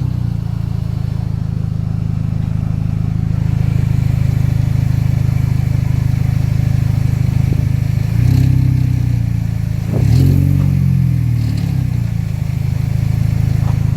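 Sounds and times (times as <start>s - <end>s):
vehicle engine idling and revving: 0.0s - 13.9s.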